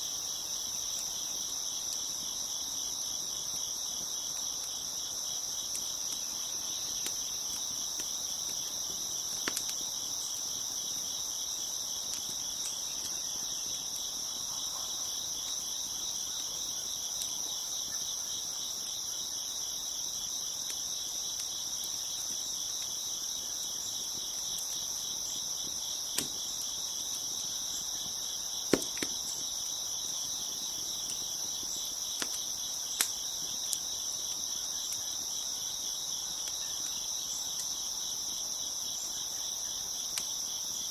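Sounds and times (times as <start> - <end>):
crickets chirping: 0.0 - 40.9
wood fire popping: 0.1 - 37.9.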